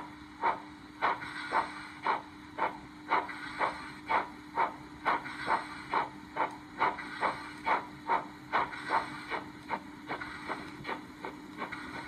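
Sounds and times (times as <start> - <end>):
faint steady hum: 0.0 - 12.0
steam locomotive exhaust chuffs: 0.0 - 12.0.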